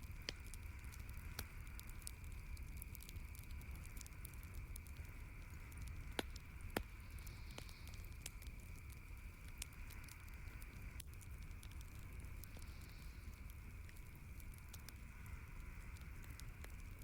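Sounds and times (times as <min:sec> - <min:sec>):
campfire crackling: 0:00.0 - 0:17.0
loud fire pops: 0:00.0 - 0:17.0
low steady rumble: 0:00.0 - 0:17.0.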